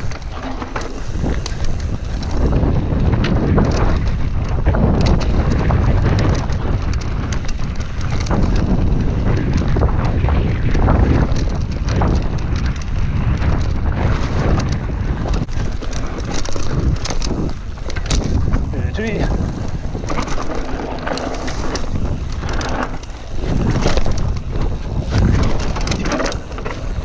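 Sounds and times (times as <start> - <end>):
bike rattling clicks and knocks: 0.0 - 27.0
bike tyre rumble on dirt: 0.0 - 27.0
wind buffeting microphone: 0.0 - 27.0.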